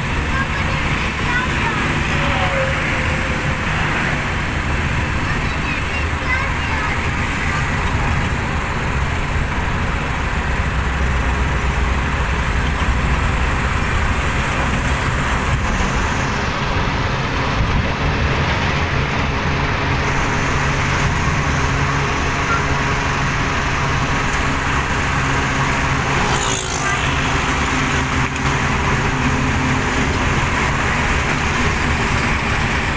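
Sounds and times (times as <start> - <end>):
road and tyre noise: 0.0 - 32.9
truck diesel engine under load: 0.0 - 32.9.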